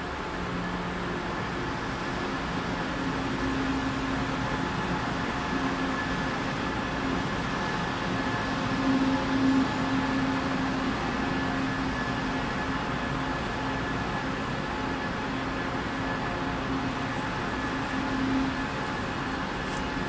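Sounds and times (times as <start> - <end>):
train mechanical hum: 0.0 - 20.0.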